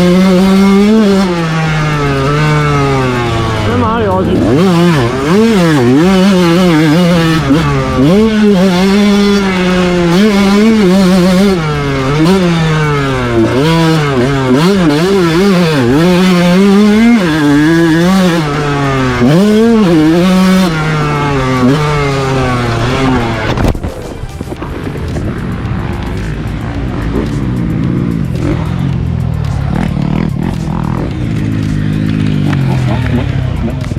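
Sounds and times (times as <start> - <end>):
motocross bike engine revving: 0.0 - 33.9.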